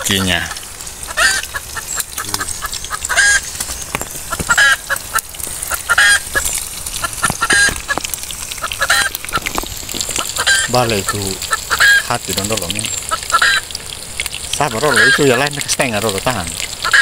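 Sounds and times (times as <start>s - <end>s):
bird calling: 0.0s - 13.9s, 14.6s - 15.6s.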